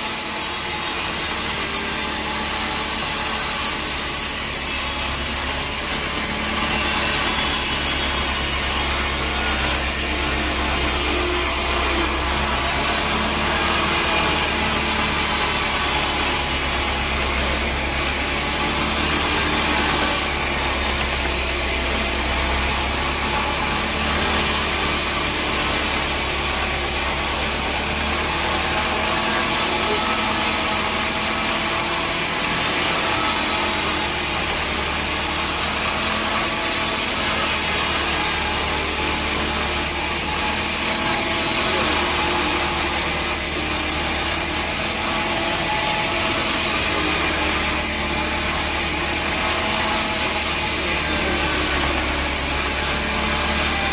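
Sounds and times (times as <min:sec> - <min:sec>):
saw cutting through log: 0:00.0 - 0:53.9.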